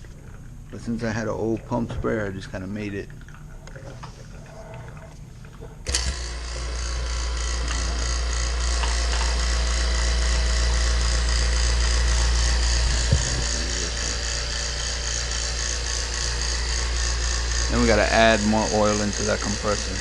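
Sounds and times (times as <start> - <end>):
vacuum pump humming: 0.0 - 20.0.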